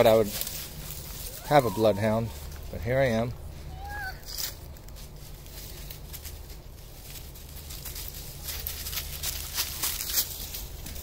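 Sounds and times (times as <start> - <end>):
footsteps crunching dry leaves: 0.0 - 11.0.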